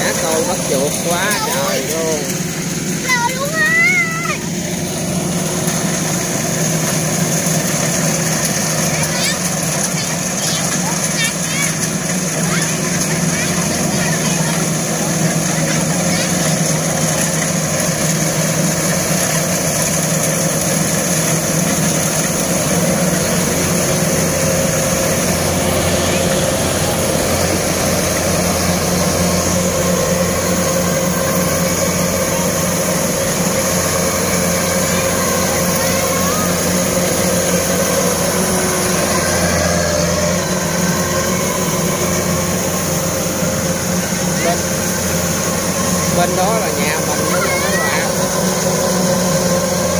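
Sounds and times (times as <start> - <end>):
combine harvester diesel engine: 0.0 - 49.9
whir of threshing machinery: 0.0 - 49.9.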